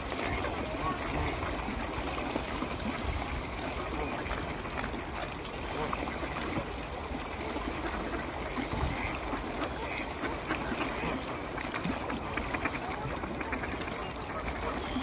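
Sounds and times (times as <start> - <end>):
ducks splashing in water: 0.0 - 15.0.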